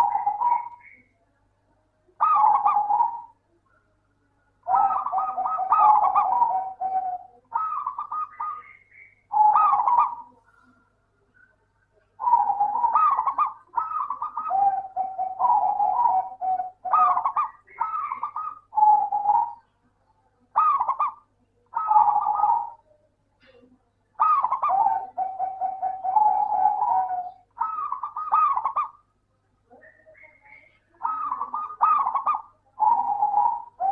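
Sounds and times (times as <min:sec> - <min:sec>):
dove cooing: 0:00.0 - 0:01.1, 0:02.2 - 0:03.5, 0:04.6 - 0:10.8, 0:12.0 - 0:19.8, 0:20.4 - 0:23.6, 0:24.2 - 0:29.1, 0:29.7 - 0:33.9.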